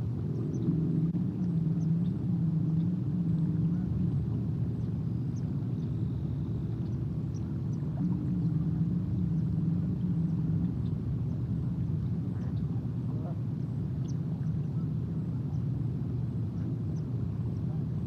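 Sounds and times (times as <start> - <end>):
droning hum: 0.0 - 18.0
low engine rumble: 0.0 - 18.0.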